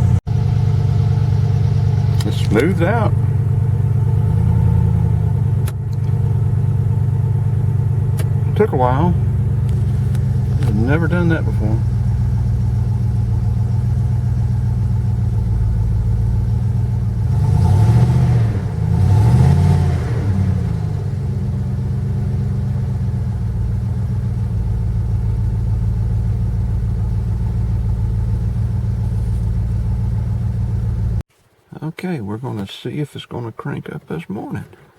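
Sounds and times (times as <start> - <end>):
car engine idling and revving: 0.0 - 31.3.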